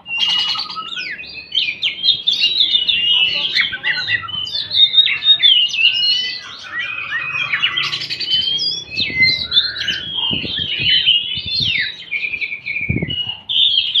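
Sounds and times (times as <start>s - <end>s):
bird singing whistles and trills: 0.0s - 14.0s.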